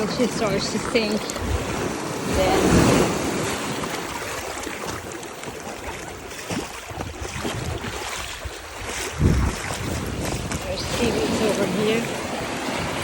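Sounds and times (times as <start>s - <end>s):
surf washing onto beach: 0.0s - 13.0s.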